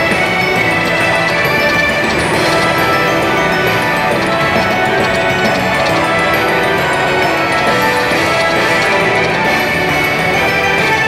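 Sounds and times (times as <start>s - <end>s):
slot machine win music: 0.0s - 11.0s
win meter counting up: 0.0s - 11.0s.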